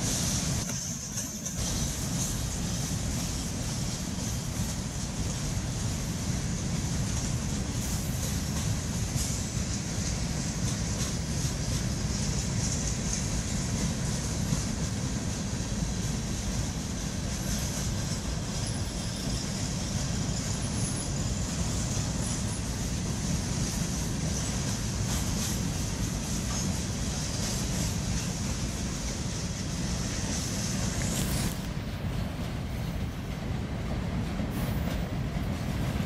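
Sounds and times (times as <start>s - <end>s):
freight train rolling past: 0.0s - 36.0s.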